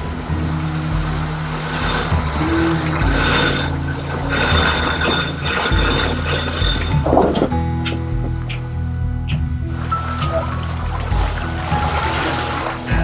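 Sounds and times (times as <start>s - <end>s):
background music sustained notes: 0.0s - 13.0s.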